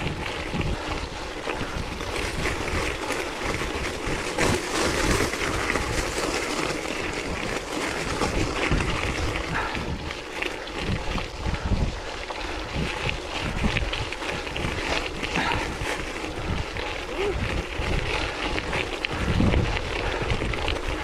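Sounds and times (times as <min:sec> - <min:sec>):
bike rattling and knocking: 0:00.0 - 0:21.0
wind buffeting microphone: 0:00.0 - 0:21.0.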